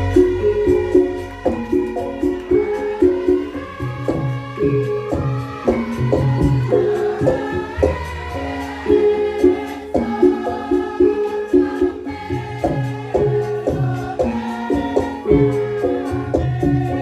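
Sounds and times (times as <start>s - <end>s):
drum strokes: 0.0s - 17.0s
gamelan metal notes: 0.0s - 17.0s
person singing gliding vocal: 0.0s - 17.0s.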